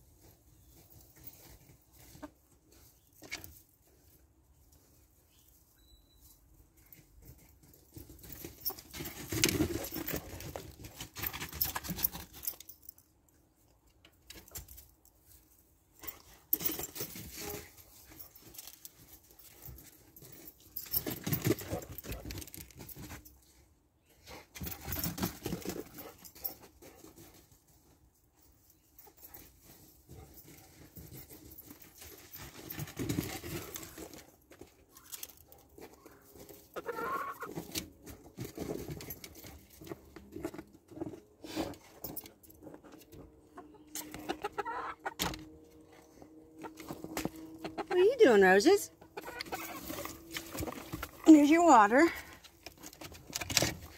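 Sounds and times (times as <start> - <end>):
chickens scratching and pecking: 0.0 - 12.8, 13.5 - 53.9.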